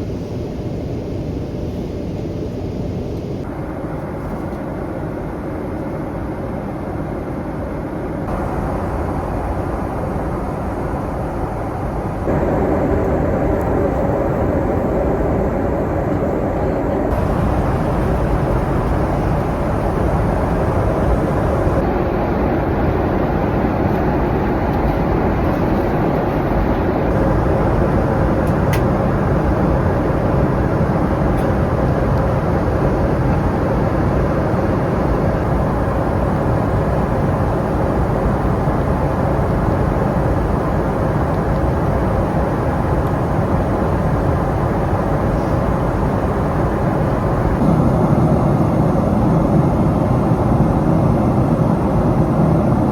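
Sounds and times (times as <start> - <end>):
jet cabin engine rumble: 0.0 - 52.9.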